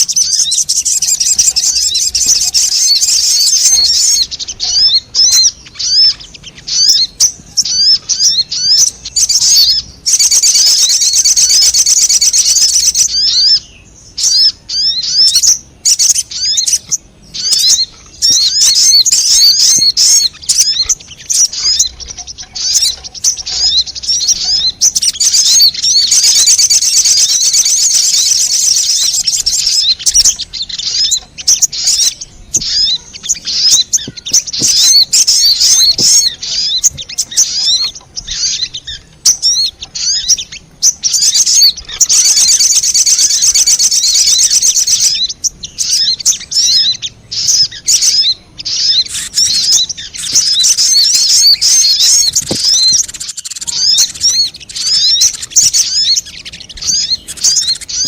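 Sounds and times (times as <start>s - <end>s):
bird chirping twitters: 0.0s - 58.0s.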